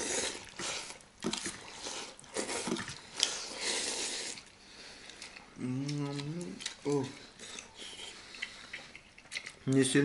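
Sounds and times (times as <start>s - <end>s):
people slurping noodles: 0.0s - 9.0s.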